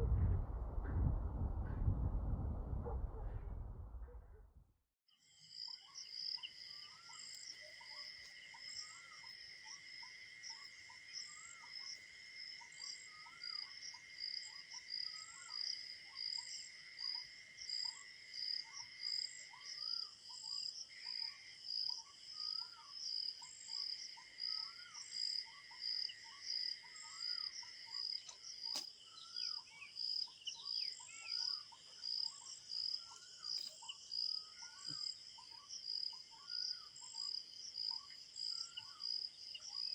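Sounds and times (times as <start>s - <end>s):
crickets chirping: 5.2s - 39.9s.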